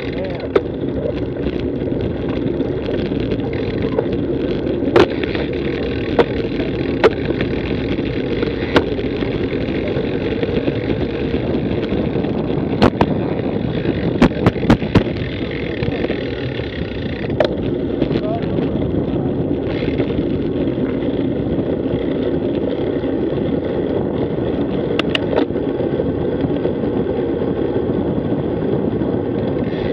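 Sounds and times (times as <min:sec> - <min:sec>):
bicycle tyres rumbling: 0:00.0 - 0:29.9
wind: 0:00.0 - 0:29.9.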